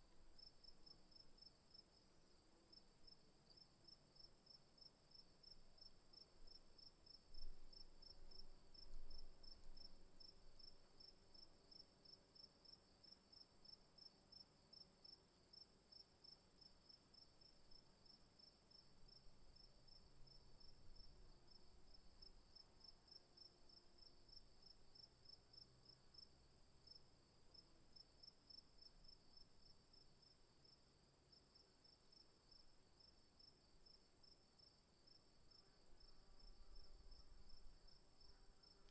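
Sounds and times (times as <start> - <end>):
cricket chirping: 0.4 - 38.9.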